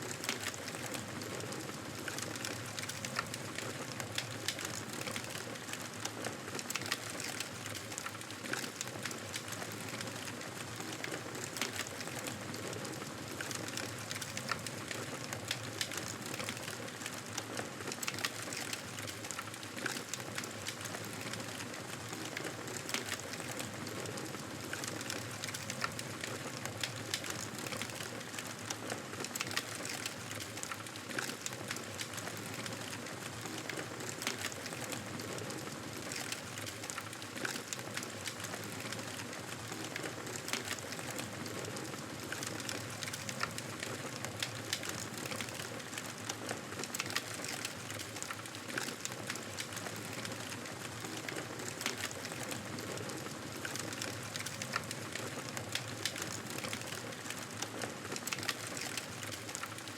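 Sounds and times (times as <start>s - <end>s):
wood fire crackling in fireplace: 0.0s - 59.9s.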